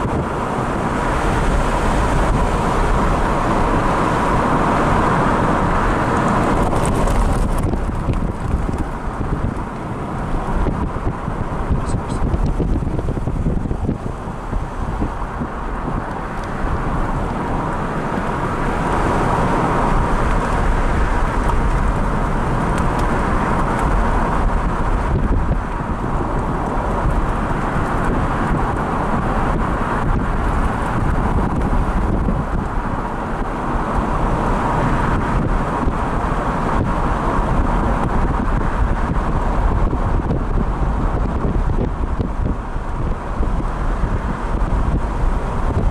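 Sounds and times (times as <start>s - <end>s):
road and engine rumble: 0.0s - 45.9s
wind noise: 0.0s - 45.9s.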